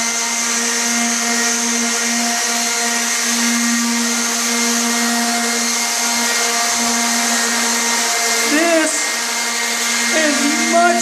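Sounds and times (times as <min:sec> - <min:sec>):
orbital sander on wooden floor: 0:00.0 - 0:11.0.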